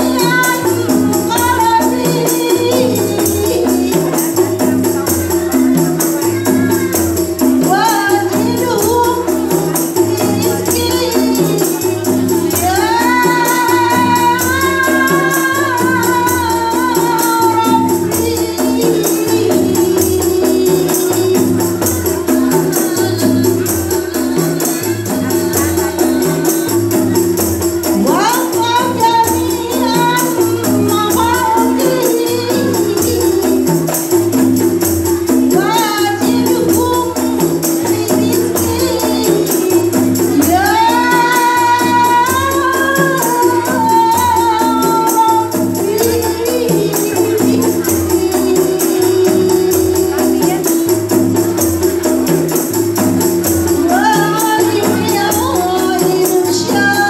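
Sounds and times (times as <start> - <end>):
tambourines and frame drums rhythm: 0.0 - 57.0
woman singing: 0.0 - 57.0.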